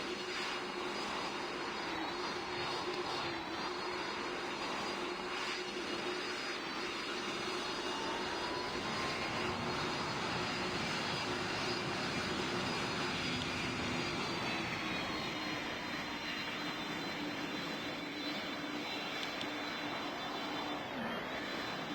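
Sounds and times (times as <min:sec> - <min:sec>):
jet engines running: 0:00.0 - 0:21.9.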